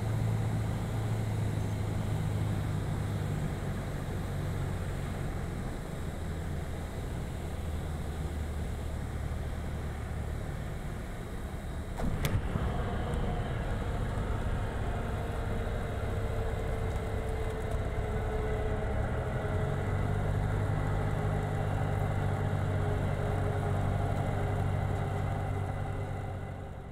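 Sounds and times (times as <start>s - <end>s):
propeller plane engine drone: 0.0s - 26.9s.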